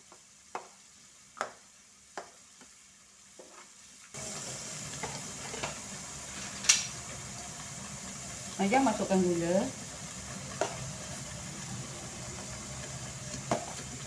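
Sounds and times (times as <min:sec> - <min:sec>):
sambal sizzling: 0:00.0 - 0:14.0.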